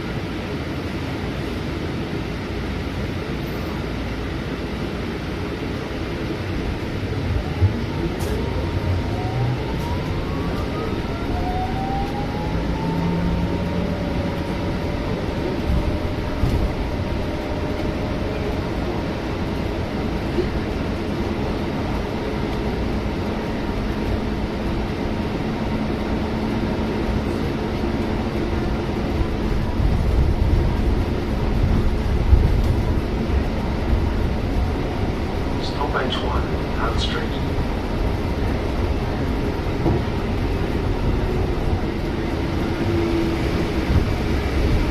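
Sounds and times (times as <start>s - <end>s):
bus engine and drivetrain whine: 0.0s - 44.9s
road rumble: 0.0s - 44.9s.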